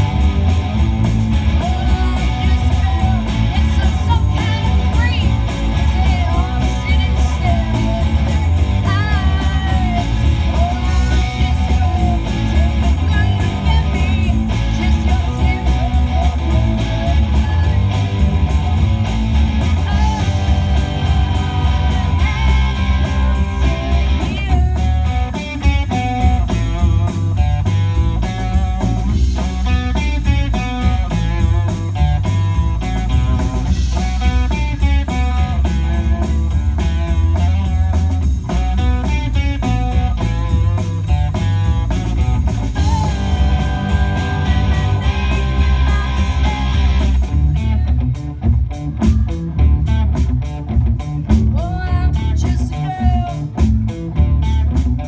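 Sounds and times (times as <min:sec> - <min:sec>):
bass guitar: 0:00.0 - 0:55.0
drums: 0:00.0 - 0:55.0
electric guitars: 0:00.0 - 0:55.0.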